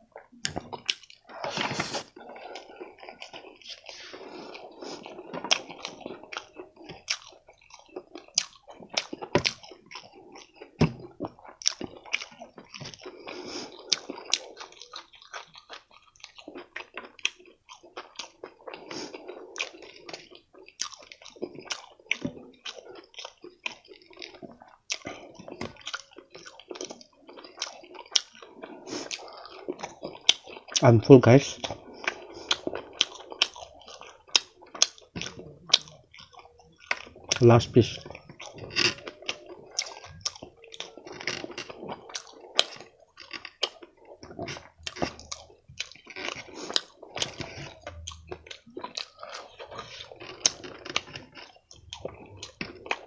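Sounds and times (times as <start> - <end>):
chewing and crunching food: 0.0 - 53.0.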